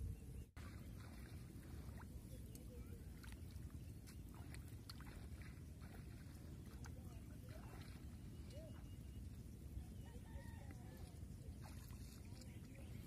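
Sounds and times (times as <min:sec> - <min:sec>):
low wind rumble on microphone: 0:00.0 - 0:13.0
water splashes and drips: 0:00.6 - 0:09.8, 0:10.6 - 0:13.0.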